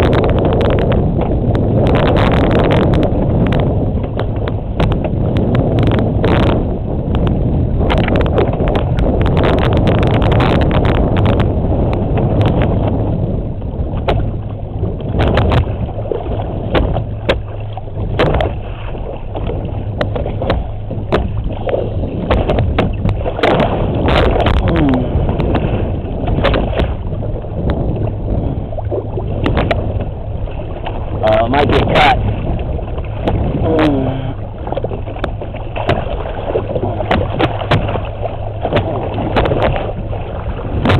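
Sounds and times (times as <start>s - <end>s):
boat engine humming: 0.0s - 40.9s
water splashing against hull: 0.0s - 40.9s.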